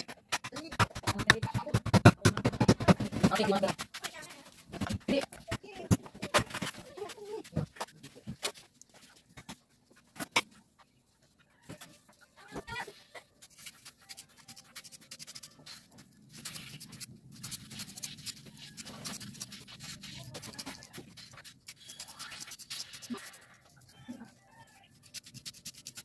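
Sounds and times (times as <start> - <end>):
rustling: 3.0 - 26.0.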